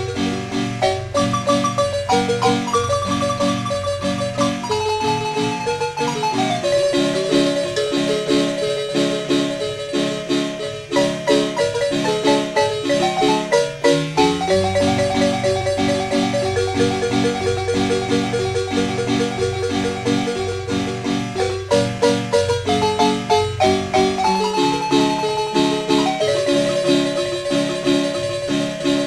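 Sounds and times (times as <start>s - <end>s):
marimba music: 0.8s - 9.2s, 11.0s - 20.0s, 21.5s - 28.8s.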